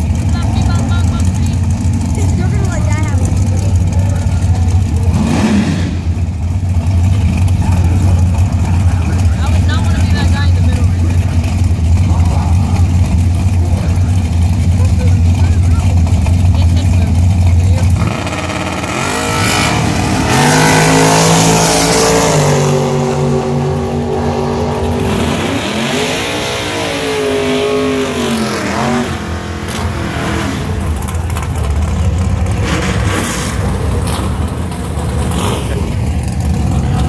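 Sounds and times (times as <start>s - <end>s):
drag racing cars accelerating: 0.0s - 37.0s.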